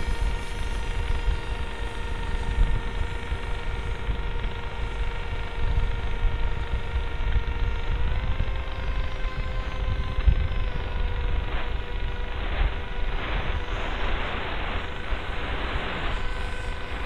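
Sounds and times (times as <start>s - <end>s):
electric motor and propeller whine: 0.0s - 17.0s
wind buffeting microphone: 0.0s - 17.0s.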